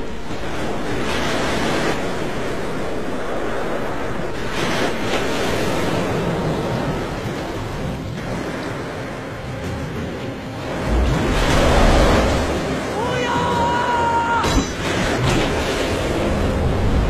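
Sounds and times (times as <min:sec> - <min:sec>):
churning rushing water: 0:00.0 - 0:17.0.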